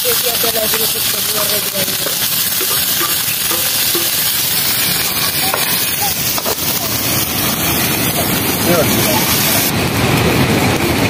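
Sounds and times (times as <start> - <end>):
food sizzling in oil: 0.0 - 9.8.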